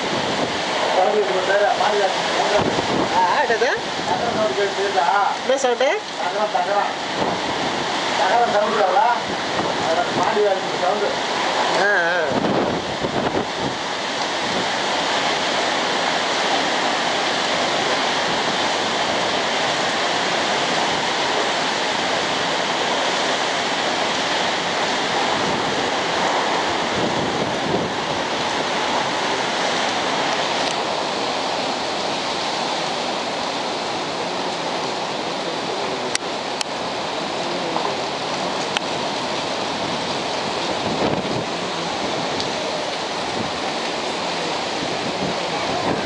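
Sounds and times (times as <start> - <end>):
strong wind and driving rain: 0.0 - 46.0.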